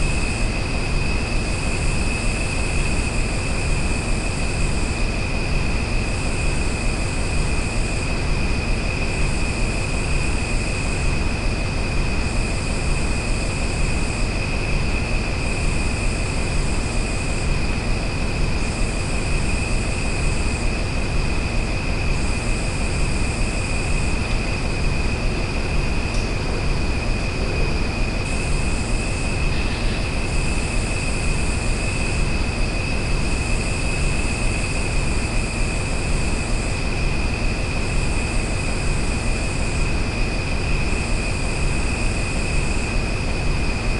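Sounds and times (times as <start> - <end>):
steady high-pitched hum: 0.0 - 43.9.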